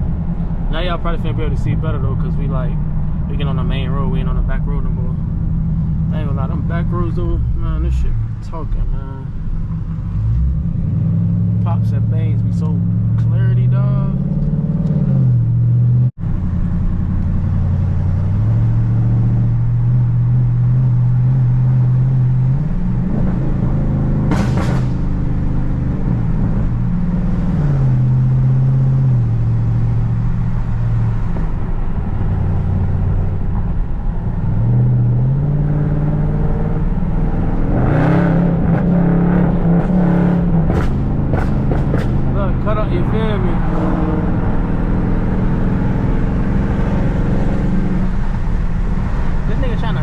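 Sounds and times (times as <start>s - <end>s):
car engine drone: 0.0s - 50.0s.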